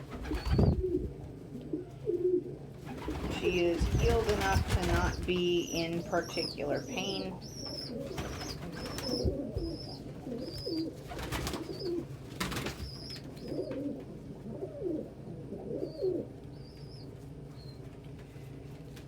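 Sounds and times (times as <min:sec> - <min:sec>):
pigeons cooing: 0:00.0 - 0:18.5.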